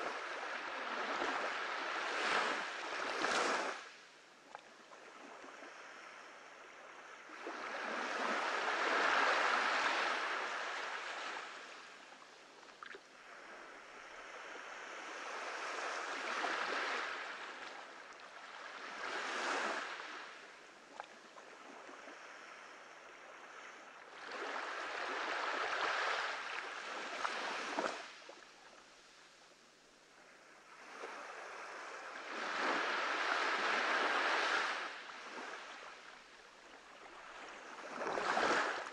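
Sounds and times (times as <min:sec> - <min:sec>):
small waves washing up beach: 0:00.0 - 0:38.9.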